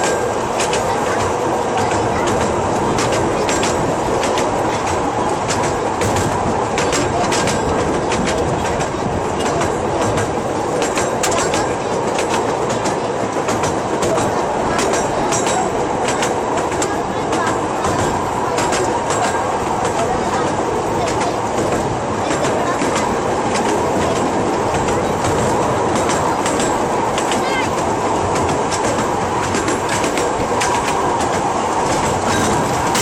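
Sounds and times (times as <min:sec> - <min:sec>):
train rumbling on rails: 0:00.0 - 0:33.0
wheels clicking and rattling: 0:00.0 - 0:33.0.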